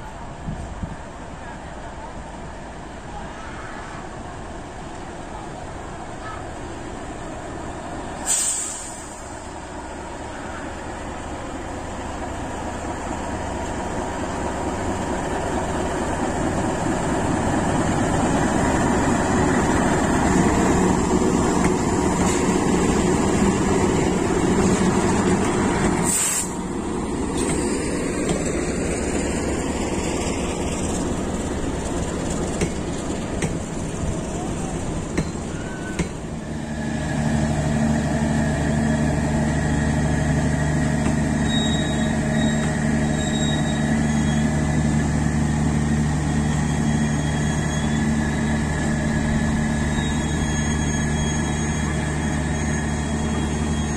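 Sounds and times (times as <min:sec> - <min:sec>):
train wheels on rails: 0:04.2 - 0:53.9
locomotive engine passing: 0:09.2 - 0:53.9.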